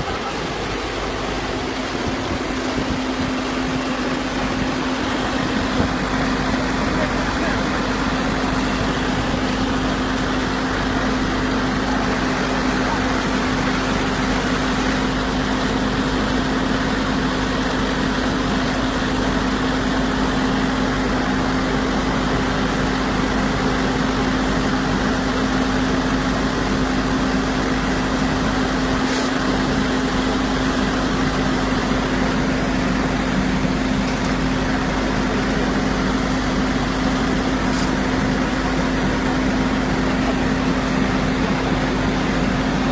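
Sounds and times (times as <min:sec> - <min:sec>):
machine humming steadily: 0:00.0 - 0:42.9.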